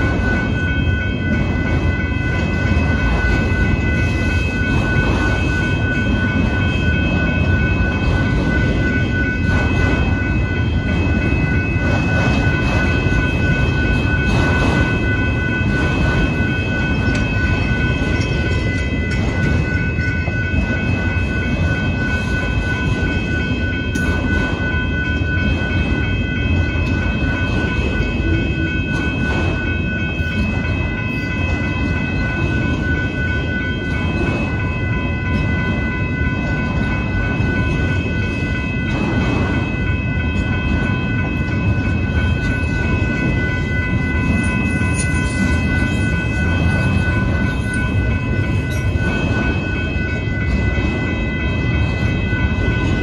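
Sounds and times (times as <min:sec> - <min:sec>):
steady high ringing tone: 0:00.0 - 0:53.0
train wheels rumbling and rattling: 0:00.0 - 0:53.0.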